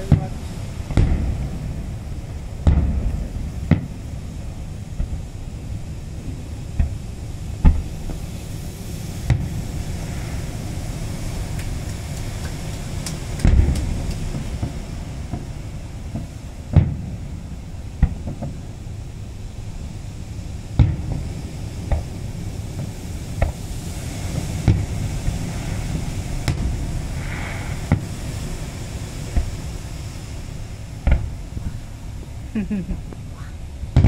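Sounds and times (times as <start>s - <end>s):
fireworks booming: 0.0s - 34.0s
low background noise: 0.0s - 34.0s.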